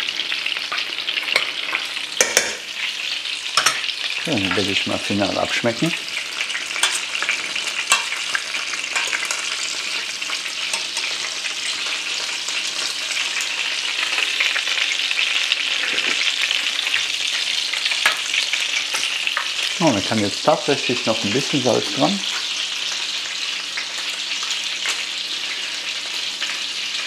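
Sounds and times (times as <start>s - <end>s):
patties sizzling in oil: 0.0s - 27.0s.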